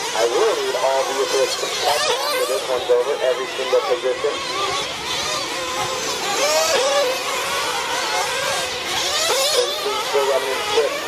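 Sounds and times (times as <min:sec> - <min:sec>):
rc car engines whining: 0:00.0 - 0:11.0.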